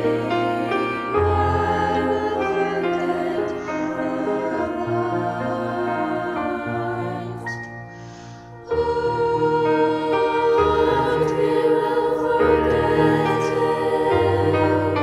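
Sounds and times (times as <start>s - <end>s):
women's choir singing: 0.0s - 7.9s, 8.6s - 15.0s
piano accompaniment: 0.0s - 15.0s.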